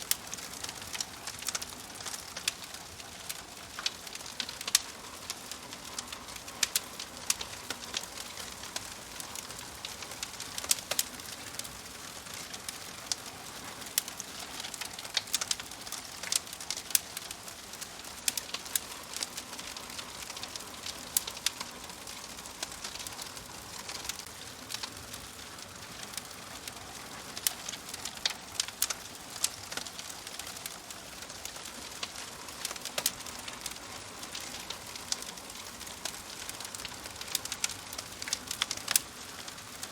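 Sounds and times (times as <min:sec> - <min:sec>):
fire hissing softly: 0:00.0 - 0:39.9
wood fire crackling and popping: 0:00.0 - 0:39.9.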